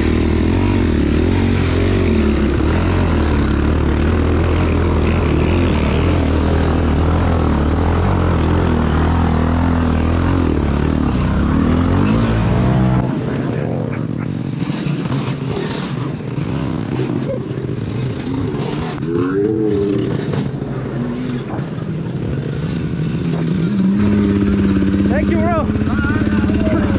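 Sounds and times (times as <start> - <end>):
off-road vehicle engine revving: 0.0 - 26.9.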